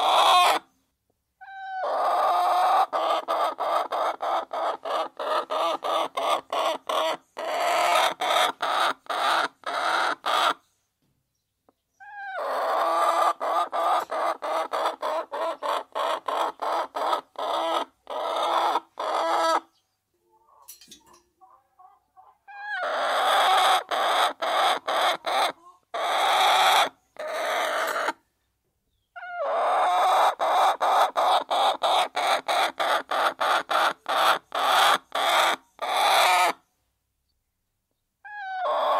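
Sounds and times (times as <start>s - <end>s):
hens clucking: 0.0s - 0.6s, 1.4s - 10.6s, 12.0s - 28.2s, 29.2s - 36.6s.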